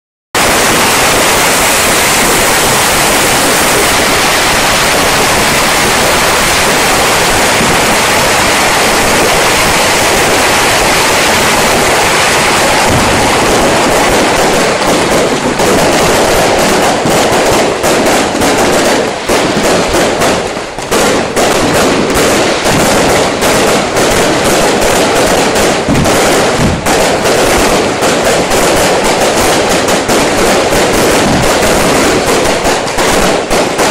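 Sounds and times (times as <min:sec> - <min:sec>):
firecrackers crackling: 0:00.3 - 0:33.9.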